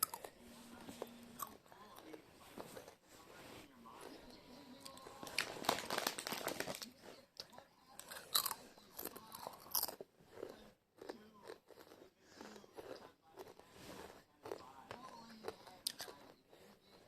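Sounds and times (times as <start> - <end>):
crisps crunching while chewed: 0.0 - 3.0, 4.8 - 17.0.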